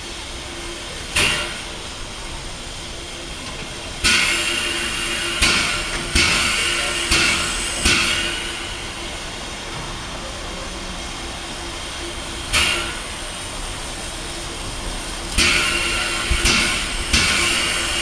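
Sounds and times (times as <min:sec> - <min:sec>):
steam locomotive hissing bursts: 0:00.0 - 0:18.0.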